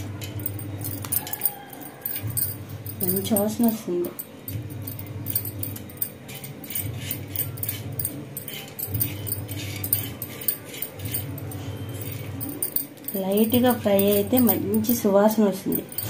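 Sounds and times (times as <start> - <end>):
spices rattling on a pan: 0.0 - 16.0.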